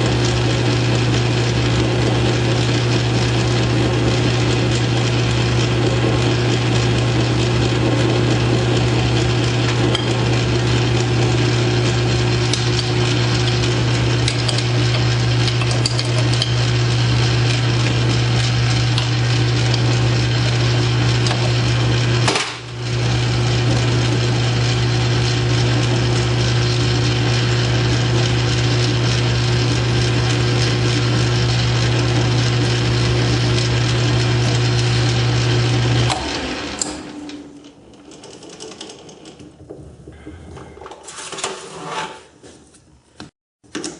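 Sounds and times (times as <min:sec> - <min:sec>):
lathe cutting metal: 0:00.0 - 0:37.7
lathe motor hum: 0:00.0 - 0:40.5.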